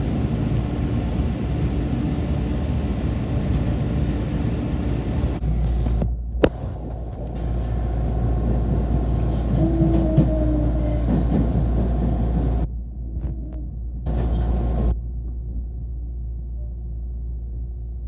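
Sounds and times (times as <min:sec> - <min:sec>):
train rumbling: 0:00.0 - 0:15.6.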